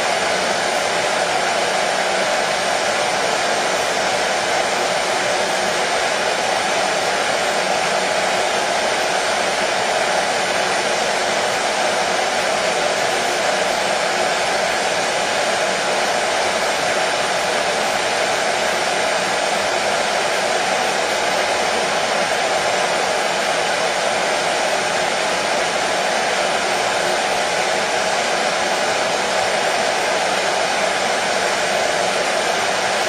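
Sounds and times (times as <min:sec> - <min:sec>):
hair dryer running: 0:00.0 - 0:33.0.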